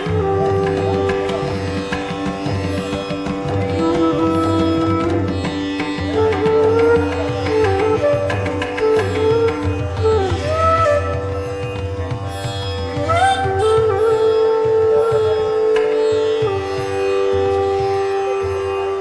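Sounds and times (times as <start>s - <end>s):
hand drum percussion: 0.0s - 19.0s
plucked string melody: 0.0s - 19.0s.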